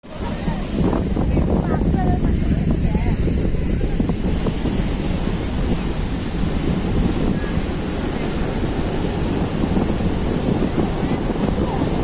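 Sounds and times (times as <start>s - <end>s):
sea waves washing onto beach: 0.0s - 12.0s
wind buffeting microphone: 0.0s - 12.0s.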